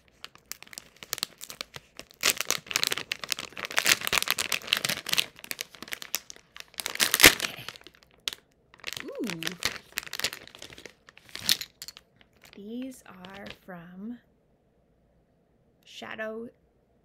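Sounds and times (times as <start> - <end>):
foil bag crinkling: 0.0 - 13.6.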